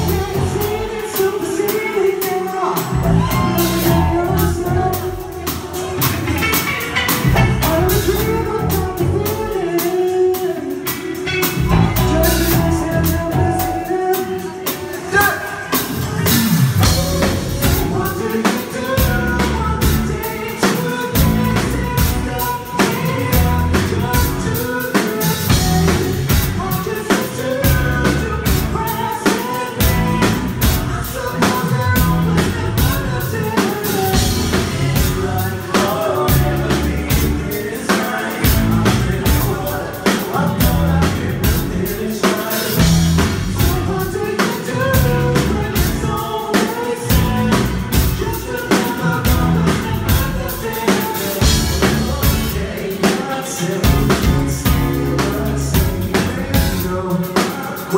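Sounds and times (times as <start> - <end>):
drum kit beat: 0.0 - 57.9
live band playing: 0.0 - 57.9
man singing: 0.0 - 57.9.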